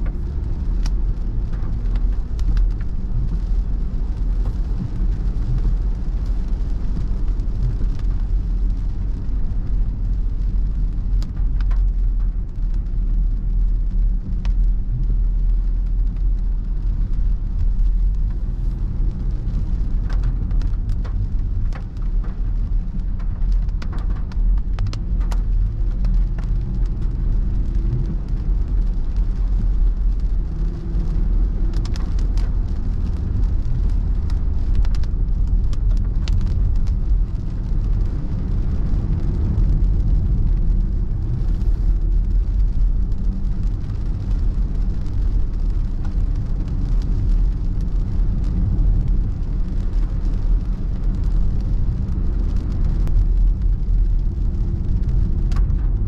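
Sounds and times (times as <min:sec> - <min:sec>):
car road and engine noise: 0:00.0 - 0:56.0
raindrops ticking on windscreen: 0:00.0 - 0:56.0.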